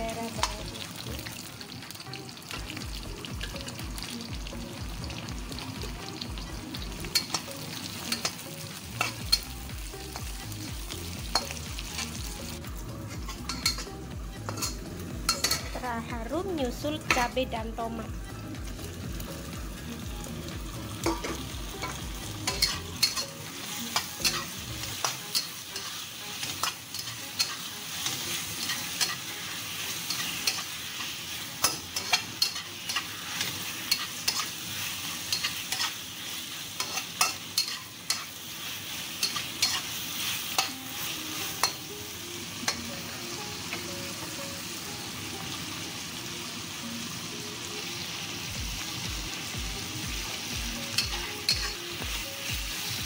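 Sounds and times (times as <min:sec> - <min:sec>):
vegetables sizzling in a wok: 0:00.0 - 0:53.0.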